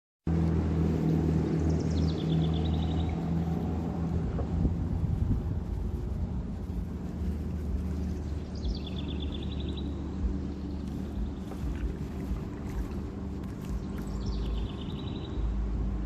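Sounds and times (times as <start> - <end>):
low outdoor rumble: 0.3 - 16.0.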